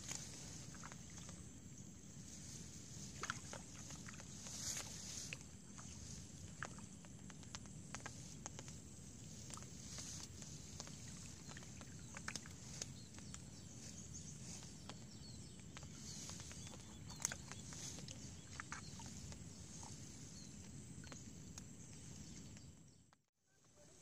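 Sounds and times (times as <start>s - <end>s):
faint clicks: 3.2s - 23.2s.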